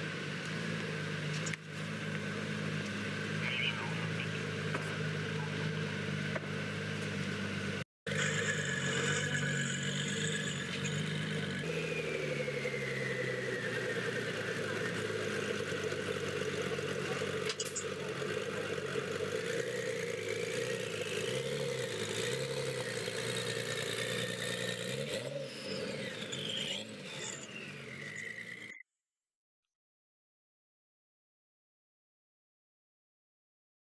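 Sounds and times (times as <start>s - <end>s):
car engine revving: 0.0s - 28.8s.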